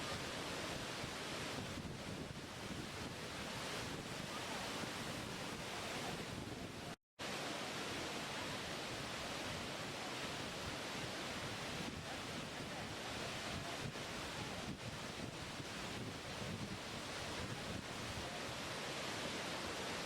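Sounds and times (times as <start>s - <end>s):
waterfall rushing: 0.0s - 1.8s, 2.4s - 20.0s.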